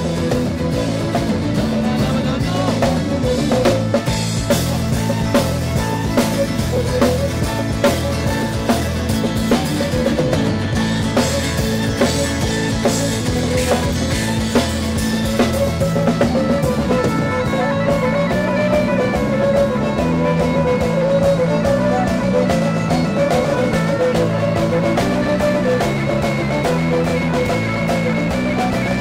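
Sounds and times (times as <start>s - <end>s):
bagpipes: 0.0s - 29.0s
drum kit beat: 0.0s - 29.0s
strummed acoustic guitar: 0.0s - 29.0s.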